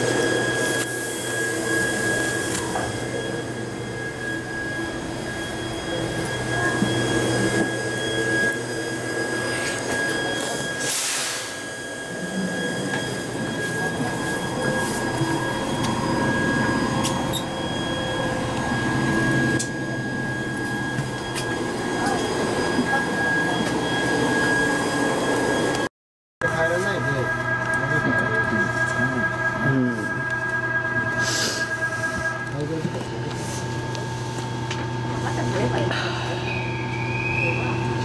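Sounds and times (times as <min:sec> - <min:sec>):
electric train interior hum: 0:00.0 - 0:38.0.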